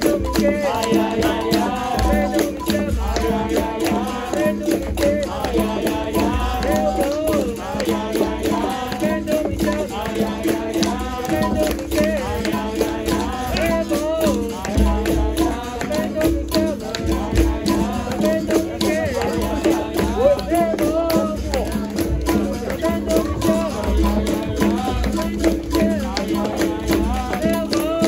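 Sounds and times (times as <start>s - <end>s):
berimbau: 0.0s - 28.0s
hand percussion: 0.0s - 28.0s
voices singing: 0.0s - 28.0s.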